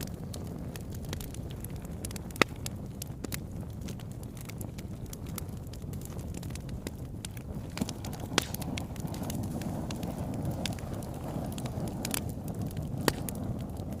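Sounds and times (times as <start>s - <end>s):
fire popping sharply: 0.0s - 14.0s
low rumble of flames: 0.0s - 14.0s.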